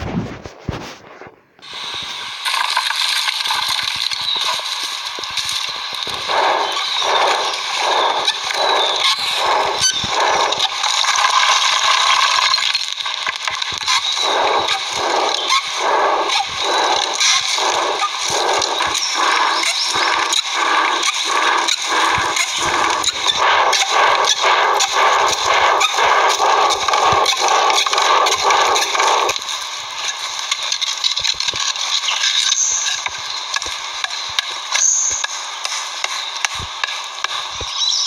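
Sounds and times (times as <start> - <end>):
rhythmic scraping strokes: 0.0 - 37.6
scattered clicks: 1.6 - 37.8.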